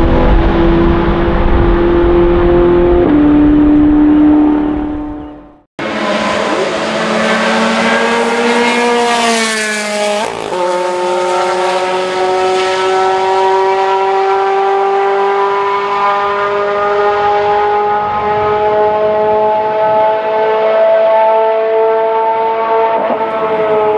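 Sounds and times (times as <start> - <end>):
race car engine at high revs: 0.0 - 23.9.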